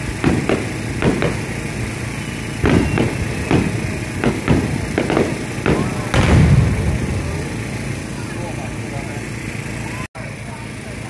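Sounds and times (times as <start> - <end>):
fireworks bangs: 0.0 - 10.0
low rumbling echo: 0.0 - 10.1.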